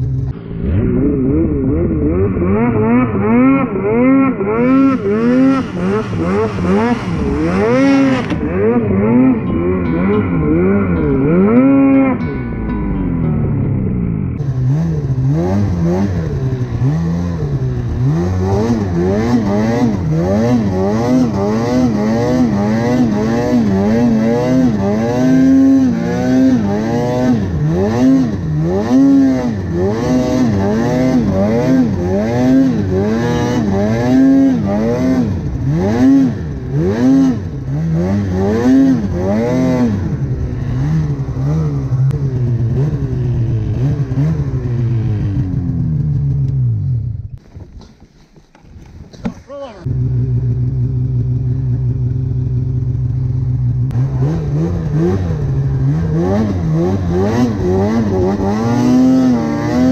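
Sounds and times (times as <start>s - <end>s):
snowmobile engine revving: 0.0s - 12.3s, 14.4s - 47.2s, 47.8s - 59.9s.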